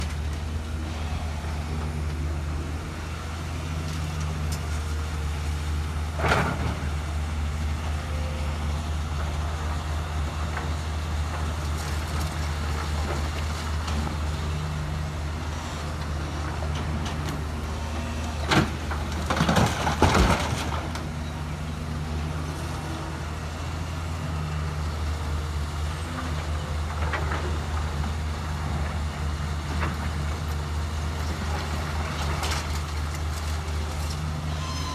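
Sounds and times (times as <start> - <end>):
diesel engine droning: 0.0 - 34.9.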